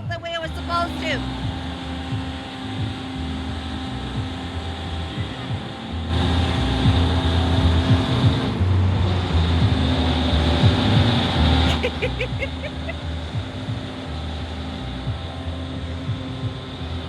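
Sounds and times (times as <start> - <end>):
carnival ride machinery rumbling: 0.0 - 17.0.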